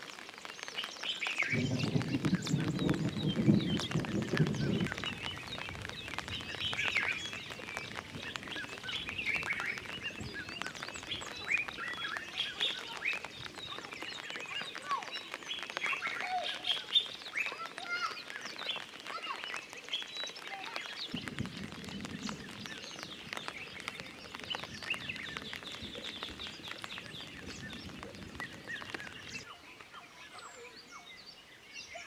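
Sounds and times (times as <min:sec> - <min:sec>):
birds chirping and whistling: 0:00.2 - 0:32.0
lower bird calls: 0:00.6 - 0:32.0.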